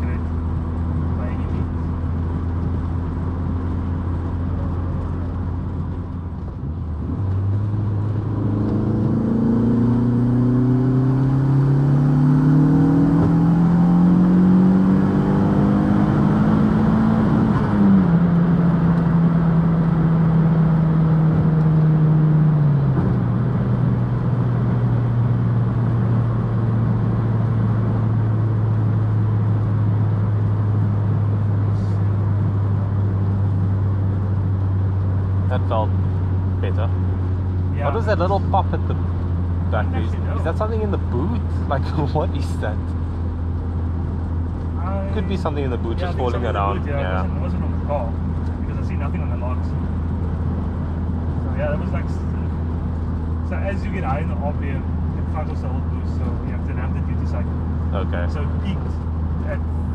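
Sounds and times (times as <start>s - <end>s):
turbo car engine revving: 0.0s - 59.9s.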